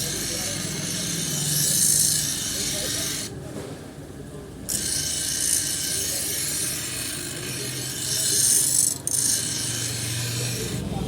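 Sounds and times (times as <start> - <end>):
abrasive scraping on steel: 0.0 - 3.3, 4.7 - 10.9.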